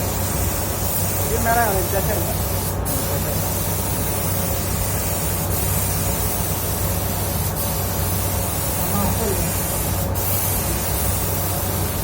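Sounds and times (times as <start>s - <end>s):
paint spray gun hissing: 0.0s - 12.0s.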